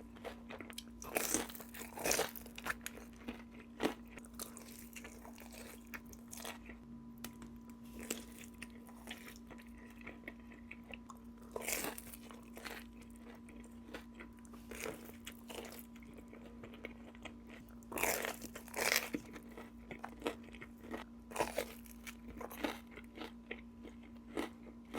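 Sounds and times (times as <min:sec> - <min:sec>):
biting and chewing crunches: 0:00.0 - 0:24.9.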